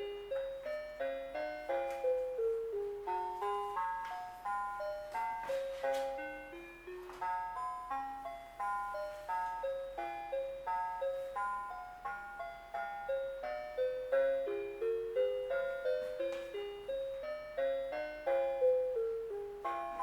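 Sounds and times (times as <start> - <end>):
chime-like melody: 0.0 - 20.0.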